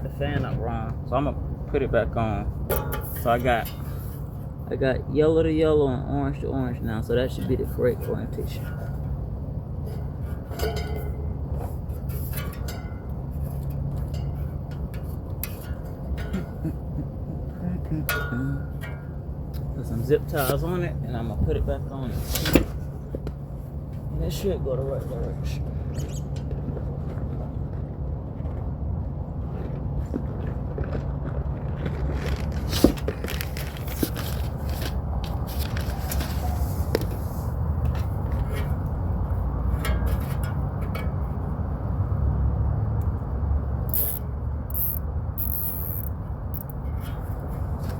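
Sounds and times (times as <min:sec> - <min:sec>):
low mechanical hum: 0:00.0 - 0:47.9
parts clicking and scraping: 0:02.6 - 0:04.6, 0:07.3 - 0:24.1, 0:25.1 - 0:41.7, 0:43.8 - 0:47.9.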